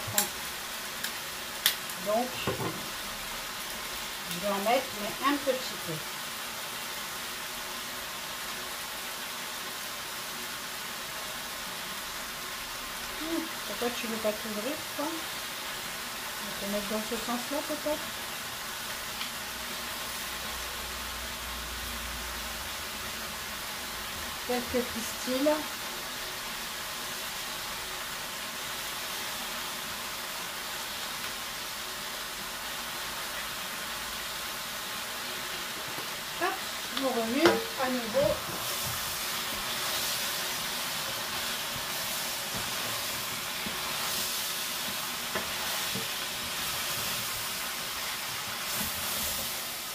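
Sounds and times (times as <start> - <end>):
vegetables sizzling in a pot: 0.0 - 49.9.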